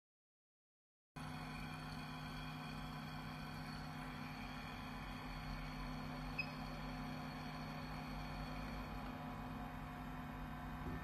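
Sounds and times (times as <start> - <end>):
printer pump and fan humming: 1.2 - 11.0.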